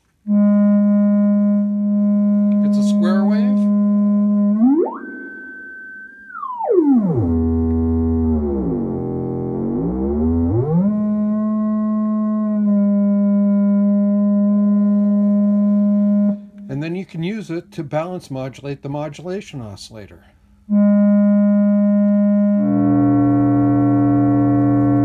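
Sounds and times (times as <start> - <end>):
square-wave oscillator tone sweeping: 0.3 - 16.8, 20.7 - 25.0.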